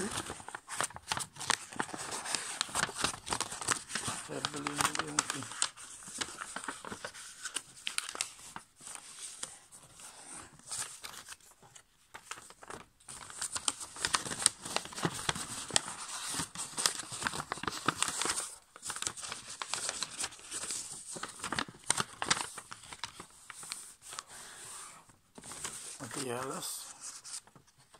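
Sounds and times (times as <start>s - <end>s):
paper crinkling and rustling: 0.0s - 27.9s.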